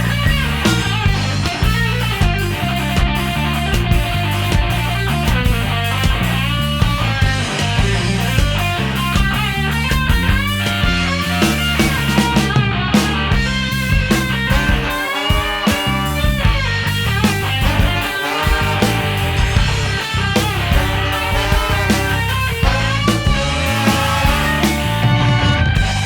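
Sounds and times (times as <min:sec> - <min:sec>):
bass line: 0:00.0 - 0:26.0
drums: 0:00.0 - 0:26.0
electric guitar: 0:00.0 - 0:26.0
horn section: 0:00.0 - 0:26.0.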